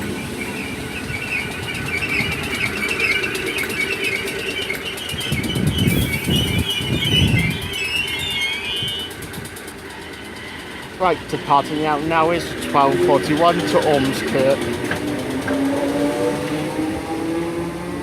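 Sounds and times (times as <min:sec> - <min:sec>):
train wheels squealing: 0:00.0 - 0:17.1
train rumble: 0:00.0 - 0:18.0
wheels clicking over rails: 0:00.0 - 0:18.0.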